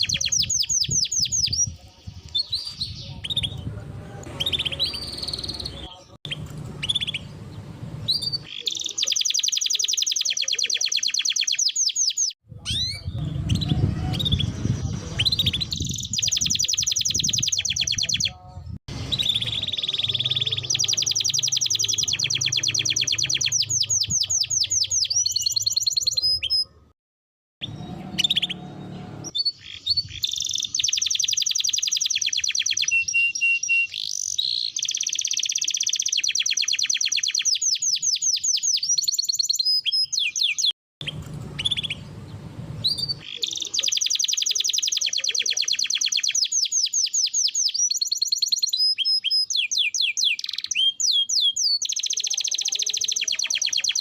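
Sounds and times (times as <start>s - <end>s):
canary singing trills: 0.0s - 26.9s, 27.6s - 54.0s.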